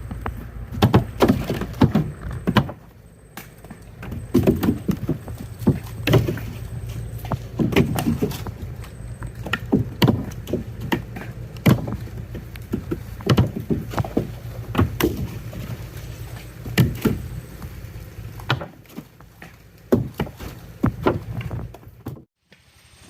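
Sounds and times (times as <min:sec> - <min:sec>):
hard knocks and thuds: 0:00.0 - 0:15.8, 0:16.6 - 0:17.3, 0:18.4 - 0:22.3
boat engine humming: 0:00.0 - 0:22.0.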